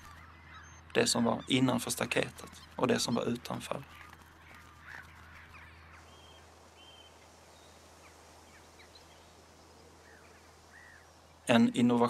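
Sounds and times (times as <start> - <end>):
bird chirps: 0.0 - 11.9
low steady hum: 0.0 - 12.0.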